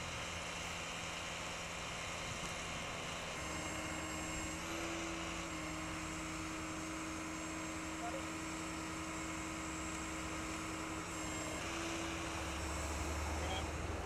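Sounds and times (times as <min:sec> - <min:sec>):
truck engine idling: 0:00.0 - 0:14.0
highway traffic noise: 0:00.1 - 0:14.0.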